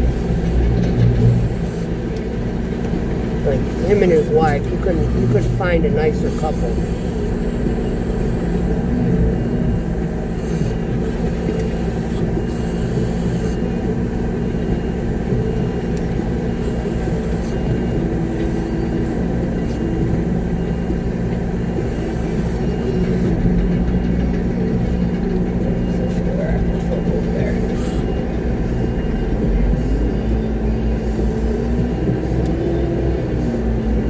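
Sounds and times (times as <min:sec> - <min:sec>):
diesel truck engine drone: 0:00.0 - 0:34.0.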